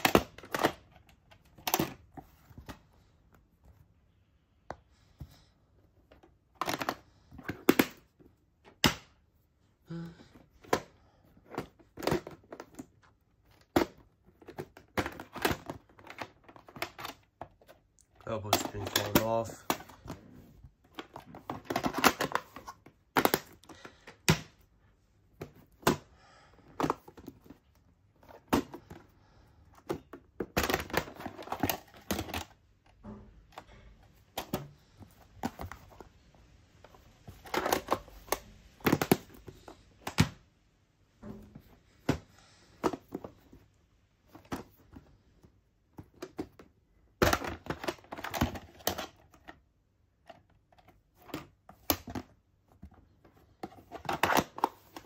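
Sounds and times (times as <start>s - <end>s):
plastic cases clicking and clattering: 0.0s - 3.8s, 4.7s - 9.4s, 10.2s - 40.5s, 41.2s - 55.0s.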